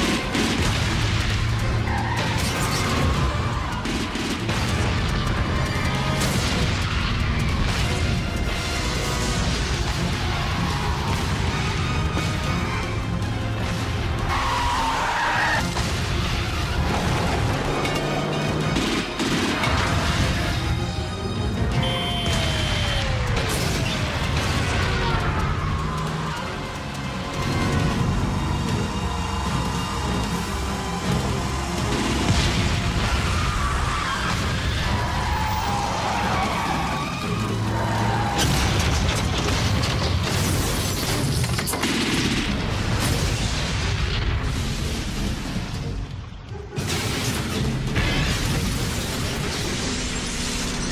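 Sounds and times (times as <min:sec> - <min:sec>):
action film score: 0:00.0 - 0:50.9
background music: 0:00.0 - 0:50.9
fire: 0:00.0 - 0:50.9.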